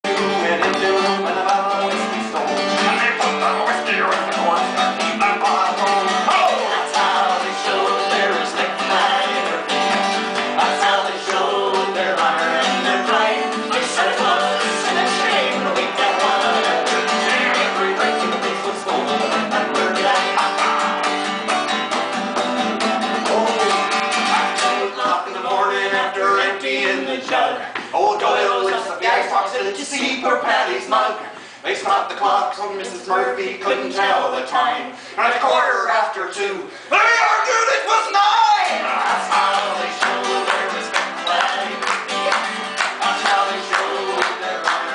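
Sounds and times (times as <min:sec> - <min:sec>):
people singing: 0:00.0 - 0:35.9, 0:36.9 - 0:44.9
acoustic guitars strumming: 0:00.0 - 0:36.1, 0:36.7 - 0:44.9.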